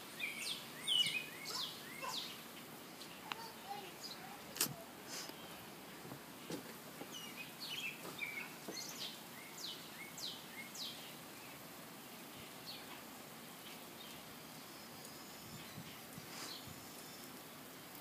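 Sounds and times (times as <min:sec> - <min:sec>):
faint outdoor hiss: 0:00.0 - 0:18.0
songbird chirping: 0:00.0 - 0:18.0.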